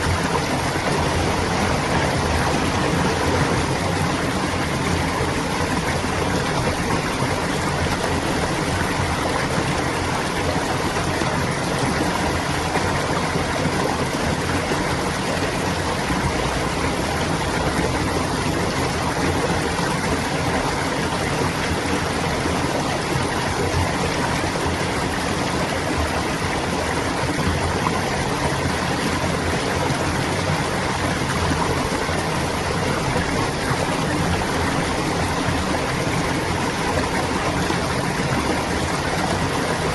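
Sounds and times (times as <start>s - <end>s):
water babbling: 0.0s - 39.9s.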